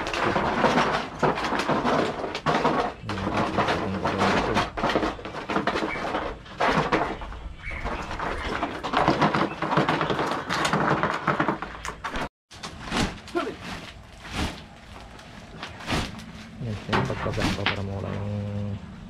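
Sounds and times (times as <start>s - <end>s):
hot stones clattering and scraping: 0.0s - 18.2s.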